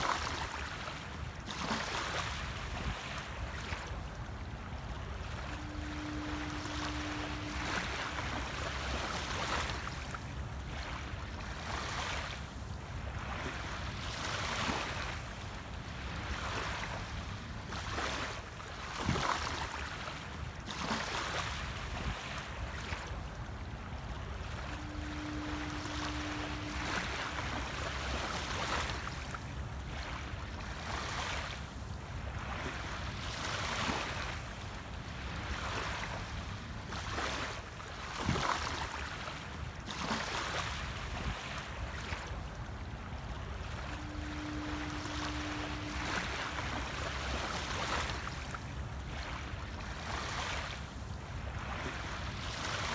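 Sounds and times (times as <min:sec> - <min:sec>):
low rumble of water: 0:00.0 - 0:52.9
small waves lapping on sand: 0:00.0 - 0:52.9.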